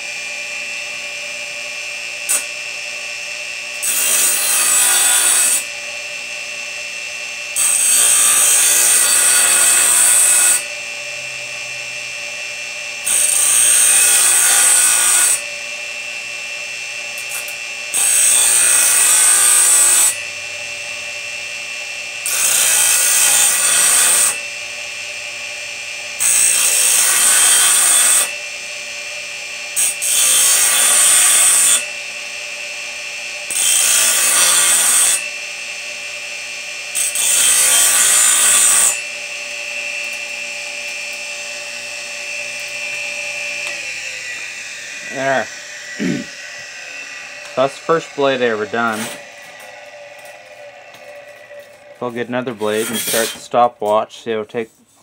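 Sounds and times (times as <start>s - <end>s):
grinder motor whine: 0.0s - 53.7s
grinder wheel grinding steel: 1.5s - 54.7s.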